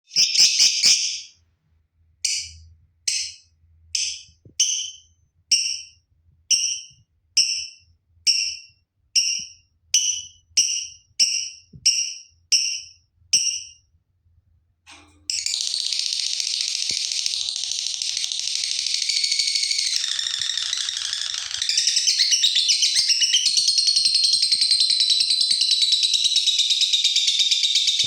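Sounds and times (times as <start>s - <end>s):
lovebird high-pitched chirps: 0.0s - 1.4s, 4.0s - 13.8s, 15.3s - 28.0s.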